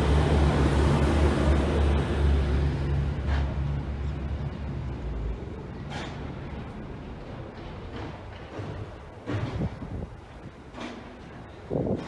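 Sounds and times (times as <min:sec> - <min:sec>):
train carriage rumbling on rails: 0:00.0 - 0:12.0.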